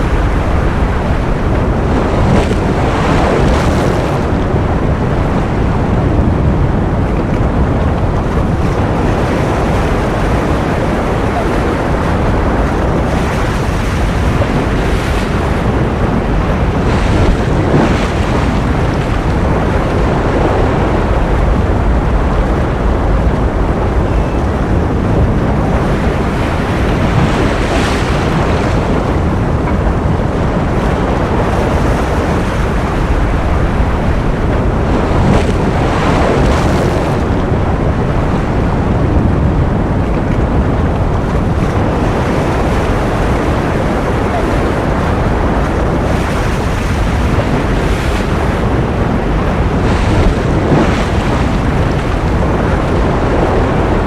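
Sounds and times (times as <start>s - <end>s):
ocean surf rushing: 0.0s - 54.0s.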